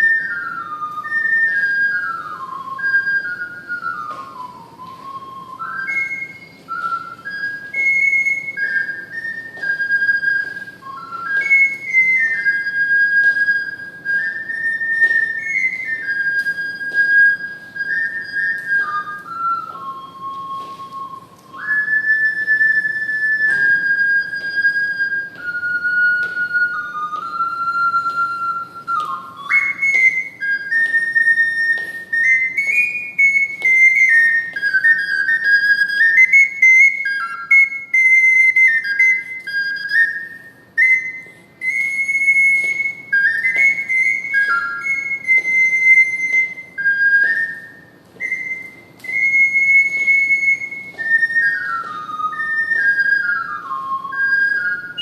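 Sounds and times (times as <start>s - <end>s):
ocarina melody: 0.0s - 55.0s.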